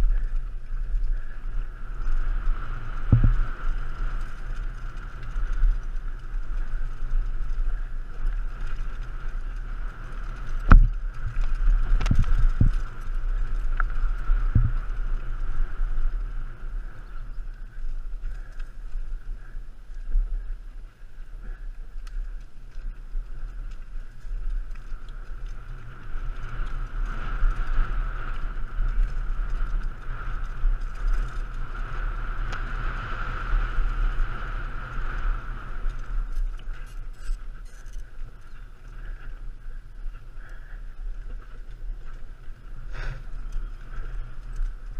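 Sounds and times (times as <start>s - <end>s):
bike jolting over bumps: 0.0s - 19.8s, 21.2s - 44.9s
bike tyre and trail noise: 0.0s - 44.9s
wind rumble on microphone: 0.0s - 44.9s.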